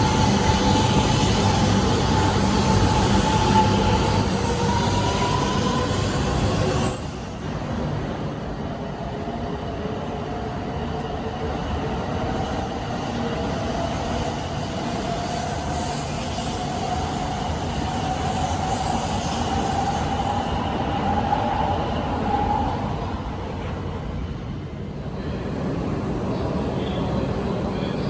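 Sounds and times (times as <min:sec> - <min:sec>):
train rumble and whine: 0:00.0 - 0:28.0.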